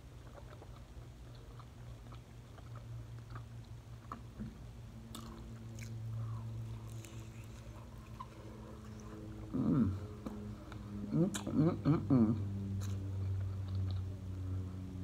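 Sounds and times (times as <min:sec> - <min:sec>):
person chewing food: 0:00.0 - 0:11.6, 0:12.7 - 0:14.8
steady low hum: 0:00.0 - 0:15.0.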